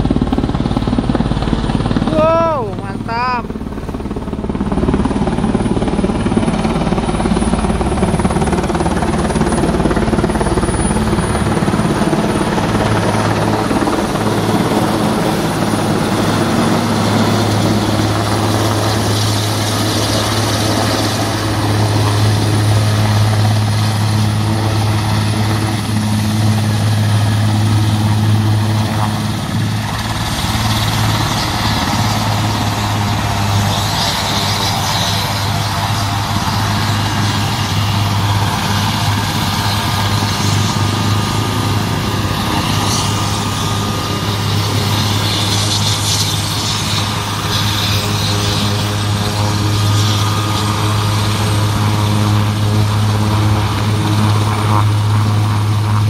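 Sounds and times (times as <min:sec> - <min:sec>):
helicopter rotor noise: 0:00.0 - 0:56.0
high turbine whine: 0:00.0 - 0:56.0.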